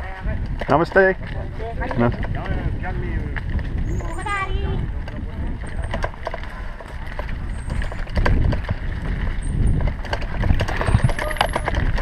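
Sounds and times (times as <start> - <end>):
bicycle frame rattling: 0.0 - 12.0.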